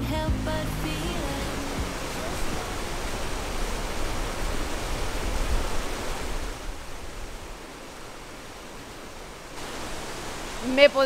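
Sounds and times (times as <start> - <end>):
river rushing over boulders: 0.0 - 11.0.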